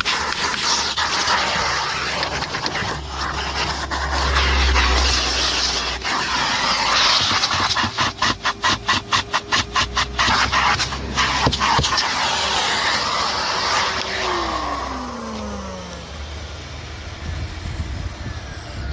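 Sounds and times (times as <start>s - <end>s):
vacuum cleaner motor: 0.0s - 18.9s.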